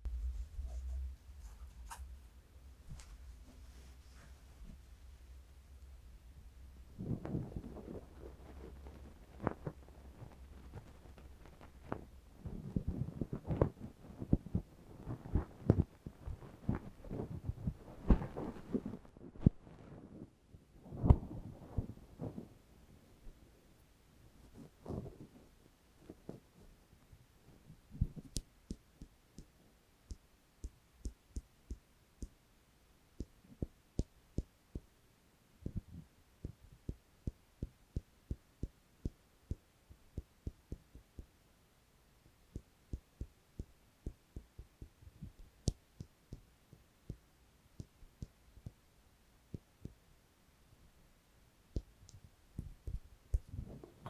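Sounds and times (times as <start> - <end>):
soft taps and rubs on microphone: 0.0 - 23.4, 24.3 - 32.4, 33.1 - 34.9, 35.6 - 41.4, 42.2 - 48.9, 49.5 - 50.0, 51.7 - 54.0.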